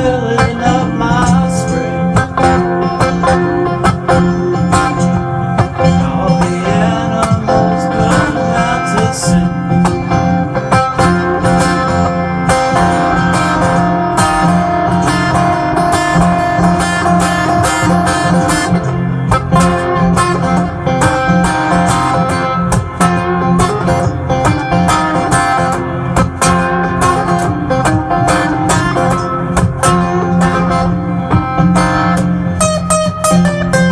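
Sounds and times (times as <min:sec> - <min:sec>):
acoustic bass: 0:00.0 - 0:33.9
acoustic guitar: 0:00.0 - 0:33.9
drums with steady beat: 0:00.0 - 0:33.9.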